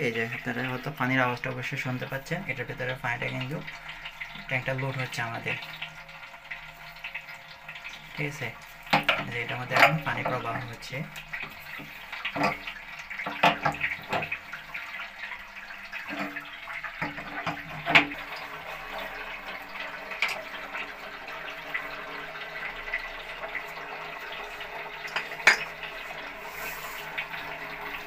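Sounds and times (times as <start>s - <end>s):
water running into a tank: 0.0s - 28.0s.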